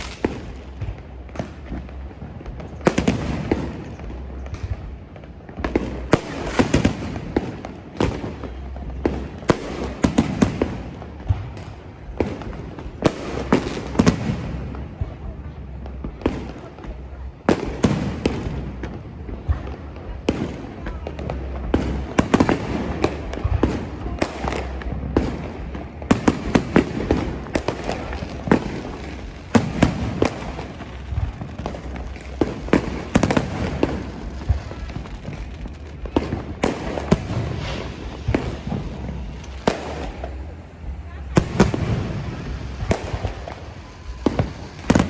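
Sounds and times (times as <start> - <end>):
crowd noise: 0.0 - 45.0
fireworks bangs and crackling pops: 0.0 - 45.0.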